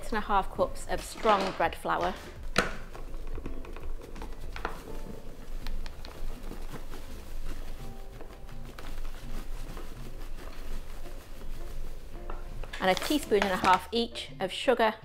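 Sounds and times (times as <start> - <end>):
paper bag rustling: 0.0 - 14.0
flour pattering into bowl: 0.9 - 14.0.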